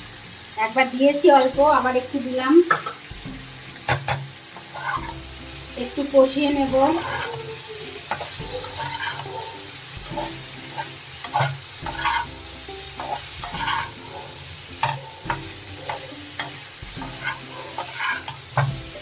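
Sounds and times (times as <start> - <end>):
curry sizzling in a pan: 0.0 - 19.0
spatula scraping a pan: 3.8 - 19.0.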